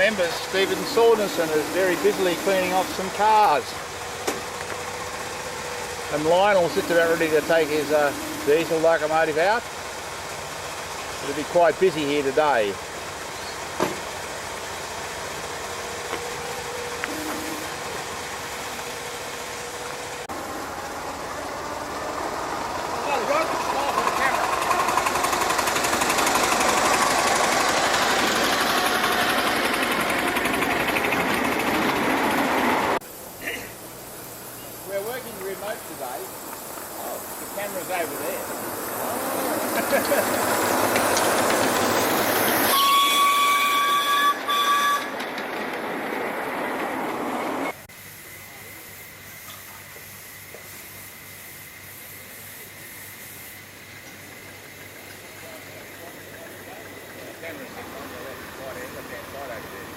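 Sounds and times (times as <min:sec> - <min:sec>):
small engine running: 0:00.0 - 0:42.7, 0:49.6 - 0:59.9
steady hiss: 0:00.0 - 0:43.8, 0:45.7 - 0:59.9.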